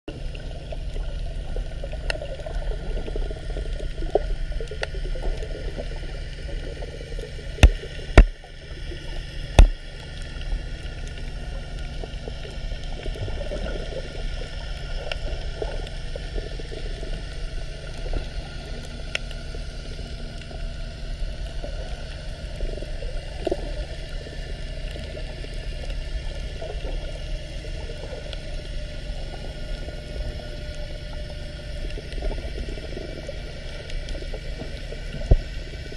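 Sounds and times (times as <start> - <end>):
aquarium water gurgling: 0.1 - 35.9
low pump hum: 0.1 - 35.9.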